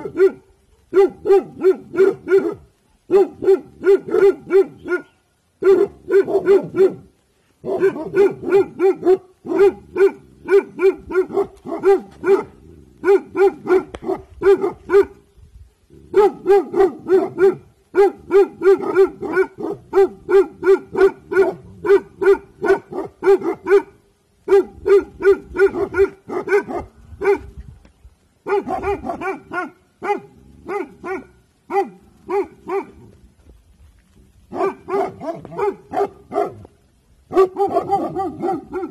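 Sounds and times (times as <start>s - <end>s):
dog barking rapidly: 0.0s - 15.2s, 16.1s - 27.5s, 28.4s - 33.0s, 34.5s - 36.7s, 37.3s - 38.9s.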